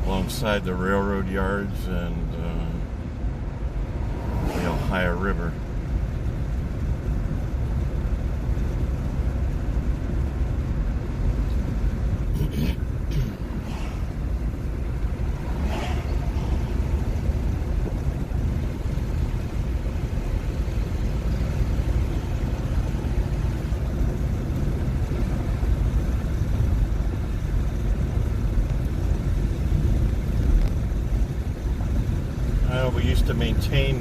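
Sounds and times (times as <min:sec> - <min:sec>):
car road and tyre rumble: 0:00.0 - 0:34.0.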